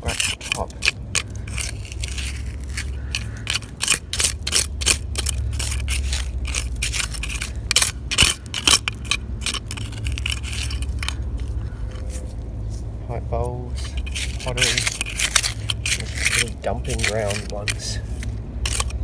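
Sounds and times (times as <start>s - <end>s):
low rumble: 0.0s - 16.8s
hands scraping through gritty mud: 0.0s - 19.0s.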